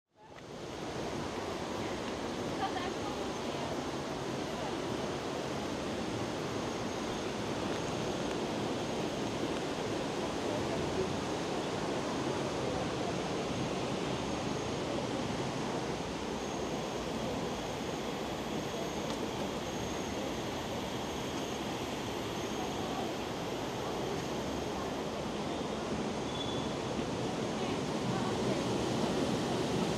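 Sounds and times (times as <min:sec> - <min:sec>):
high insect whine: 0:00.4 - 0:29.9.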